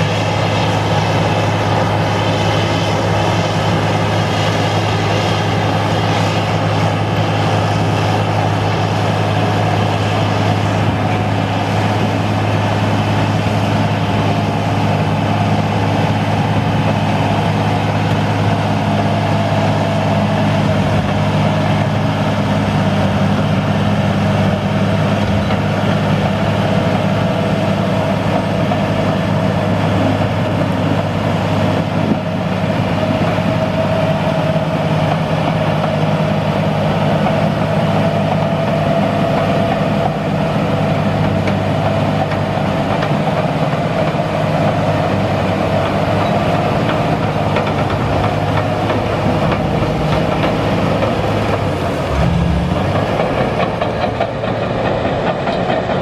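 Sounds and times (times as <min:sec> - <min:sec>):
diesel engine running under load: 0:00.0 - 0:56.0
steel tracks clanking: 0:00.0 - 0:56.0.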